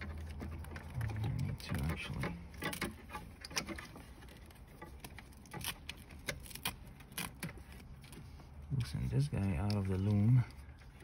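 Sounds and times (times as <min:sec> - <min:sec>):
wiring connectors clicking and rustling: 0:00.0 - 0:11.0.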